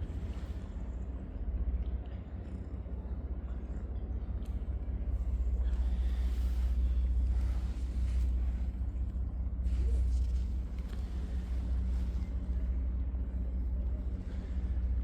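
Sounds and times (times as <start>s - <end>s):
faint hum: 0.0s - 15.0s
low rumble: 0.0s - 15.0s.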